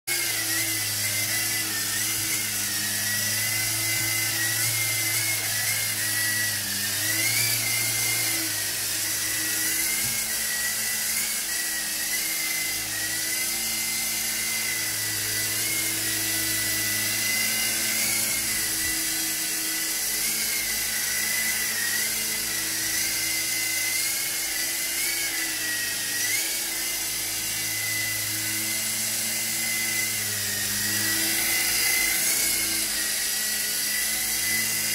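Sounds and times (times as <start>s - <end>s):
toy helicopter rotor whine: 0.1s - 34.9s.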